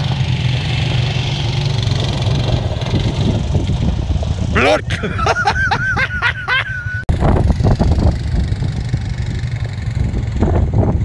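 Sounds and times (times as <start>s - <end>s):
quad engines rumbling: 0.0s - 11.0s.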